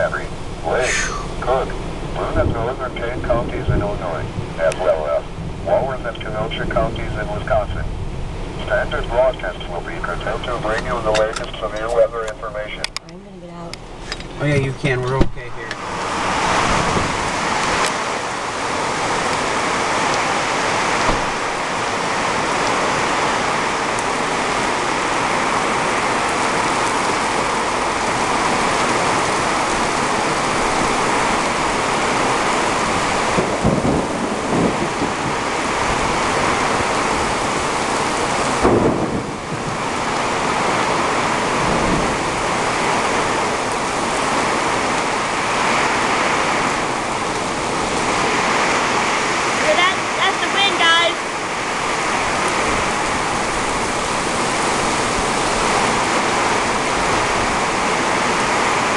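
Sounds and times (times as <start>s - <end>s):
thunder clap: 0.0s - 12.9s, 14.5s - 24.6s, 27.8s - 58.9s
heavy rain on pavement: 0.0s - 58.9s
low thunder rumble: 0.0s - 58.9s.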